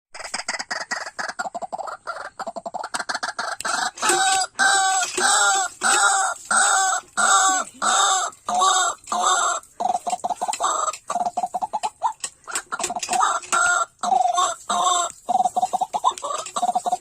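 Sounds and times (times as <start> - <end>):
bird chattering clicks: 0.2 - 17.0
bird croaking notes: 0.2 - 17.0.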